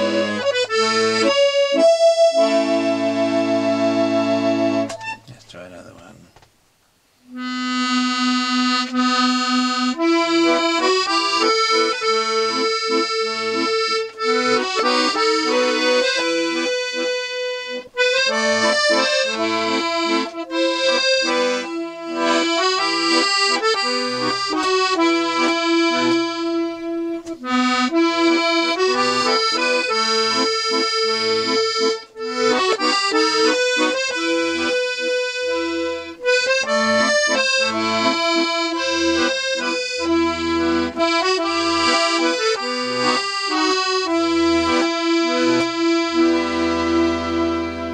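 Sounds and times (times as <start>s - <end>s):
accordion playing a tune: 0.0s - 6.1s, 7.3s - 47.9s.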